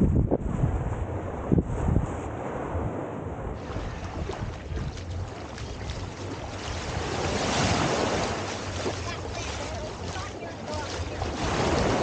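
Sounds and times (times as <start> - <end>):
wind buffeting the microphone: 0.0 - 12.0
waves washing on sandy beach: 0.7 - 12.0.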